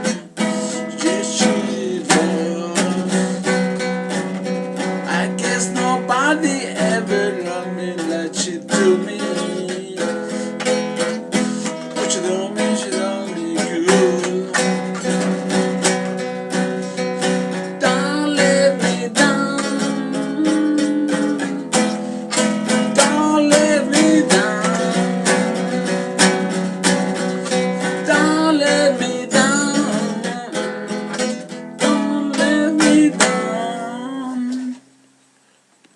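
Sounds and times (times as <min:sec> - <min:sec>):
person singing: 0:00.0 - 0:04.2, 0:05.0 - 0:34.8
acoustic guitar strumming: 0:00.0 - 0:35.0.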